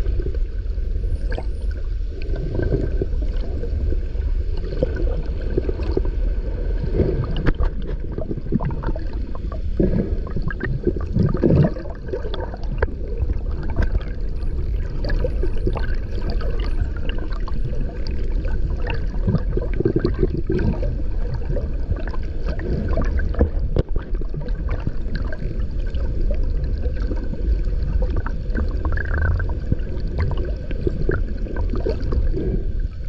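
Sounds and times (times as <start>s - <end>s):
underwater rush of water: 0.0s - 33.0s.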